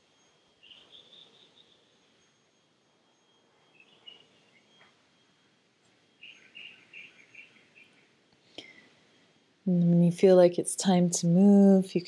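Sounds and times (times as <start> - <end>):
faint chirping: 0.0 - 12.0.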